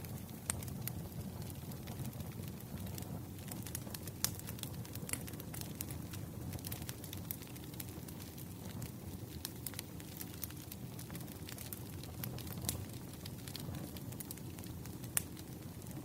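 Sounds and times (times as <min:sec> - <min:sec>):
bonfire crackling: 0:00.0 - 0:16.0.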